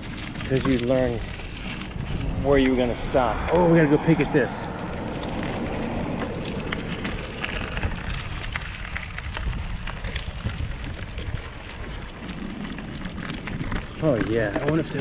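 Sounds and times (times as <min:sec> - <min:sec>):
bicycle tyres crunching gravel: 0:00.0 - 0:15.0
wind rumble on microphone: 0:00.0 - 0:15.0.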